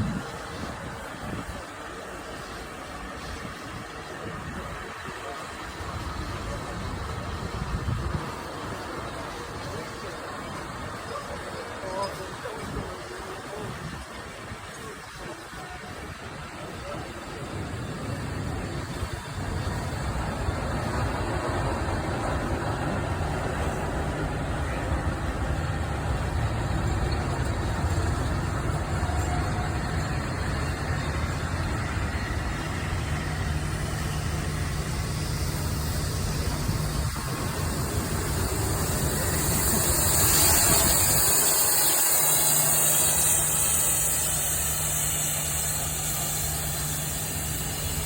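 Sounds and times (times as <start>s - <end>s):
locomotives idling hum: 0.0s - 48.0s
loud hiss: 0.0s - 48.0s.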